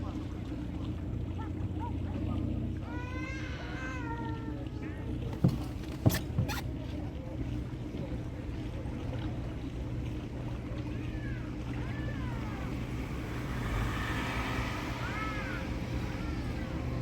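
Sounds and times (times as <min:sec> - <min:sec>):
boat motor running: 0:00.0 - 0:17.0
water rushing along hull: 0:00.0 - 0:17.0.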